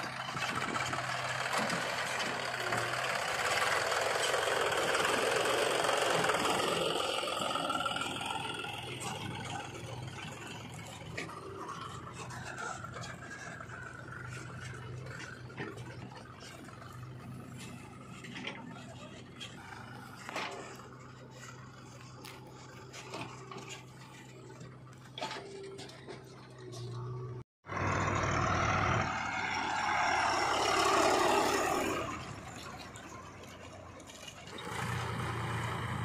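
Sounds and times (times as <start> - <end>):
diesel engines running: 0.0 - 36.0.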